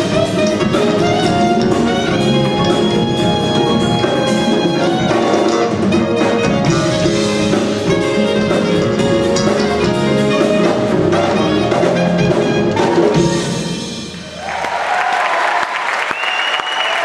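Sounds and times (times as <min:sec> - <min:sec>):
saxophone lead: 0:00.0 - 0:14.4
smooth jazz band playing: 0:00.0 - 0:14.4.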